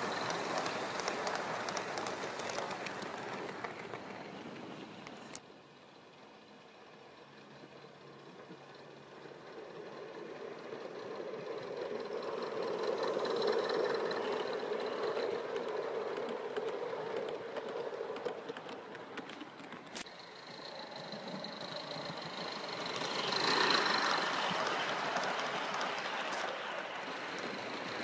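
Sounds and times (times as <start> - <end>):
model steam locomotive passing: 0.0 - 28.0.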